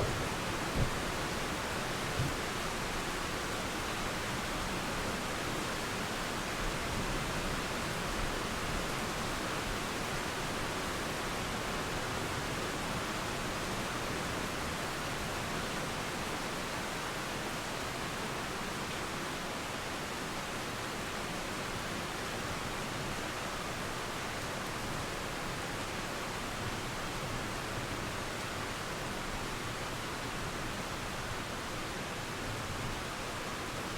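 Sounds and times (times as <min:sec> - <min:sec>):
river flowing: 0:00.0 - 0:33.9
steady rainfall: 0:00.0 - 0:33.9.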